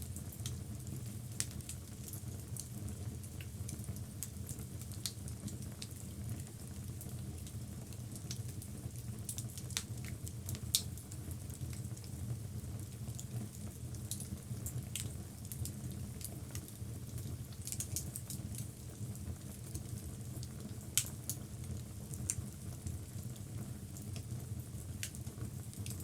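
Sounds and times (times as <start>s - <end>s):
fire crackles and pops: 0.2s - 26.0s
fire rumbling in fireplace: 0.2s - 26.0s.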